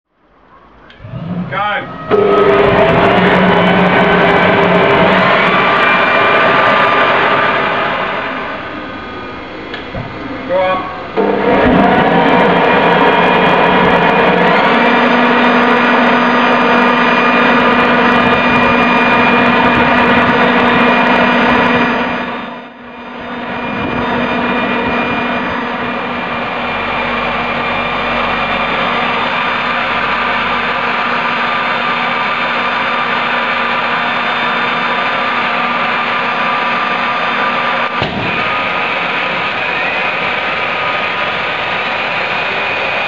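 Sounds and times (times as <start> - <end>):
turbojet roar with turbine whine: 0.9 - 43.0.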